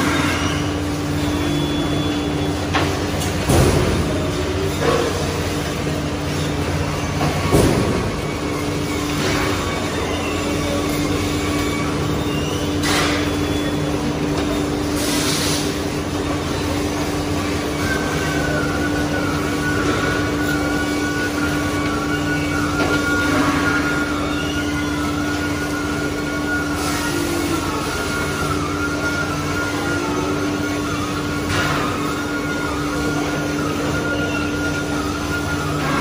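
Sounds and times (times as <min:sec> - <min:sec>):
high steady whine: 0:00.0 - 0:36.0
machinery hum and rumble: 0:00.0 - 0:36.0.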